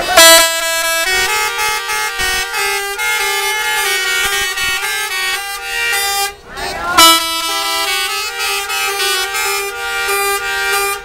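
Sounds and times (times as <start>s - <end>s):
musical air horn playing chords: 0.0s - 11.0s.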